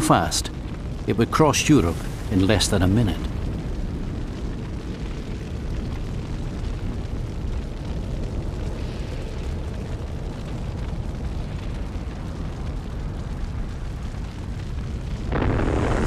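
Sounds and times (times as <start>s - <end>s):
deep steady rumble: 0.0s - 16.0s.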